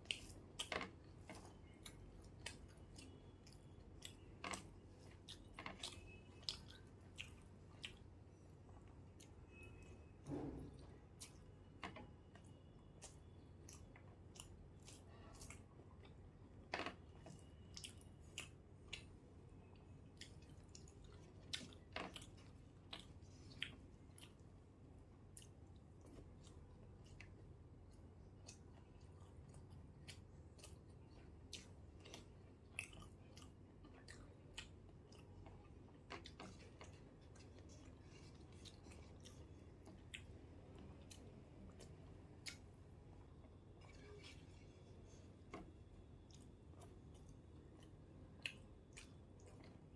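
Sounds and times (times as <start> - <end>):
close-miked chewing: 0.0 - 9.9, 12.3 - 16.4, 17.1 - 49.9.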